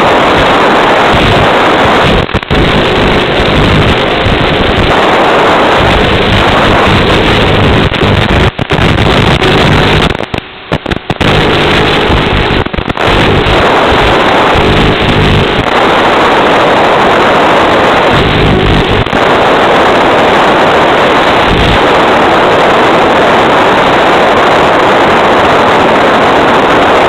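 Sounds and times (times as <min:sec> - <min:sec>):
loud steady rushing noise: 0:00.0 - 0:27.0.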